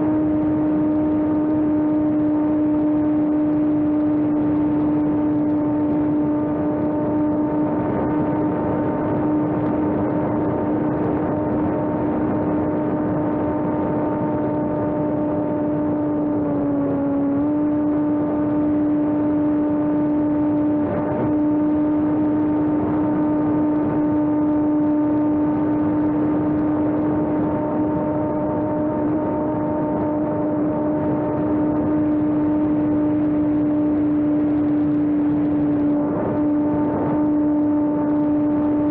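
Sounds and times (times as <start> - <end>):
model airplane motor whine: 0.0 - 38.9
rushing wind: 0.0 - 38.9.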